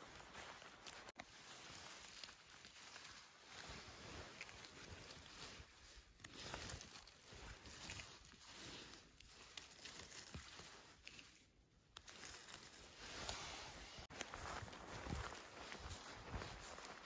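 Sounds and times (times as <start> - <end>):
rustling of dry leaves: 0.0 - 17.0.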